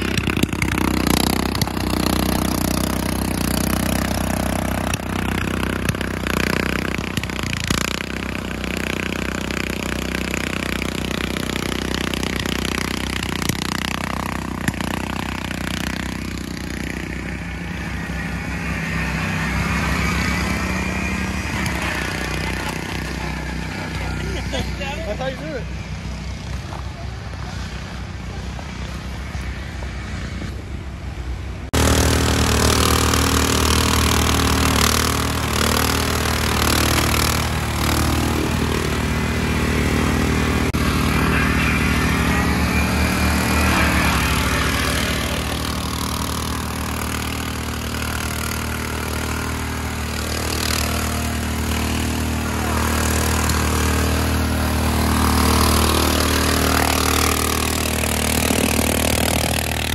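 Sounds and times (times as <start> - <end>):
lawn mower engine running: 0.0 - 30.4, 31.7 - 59.9.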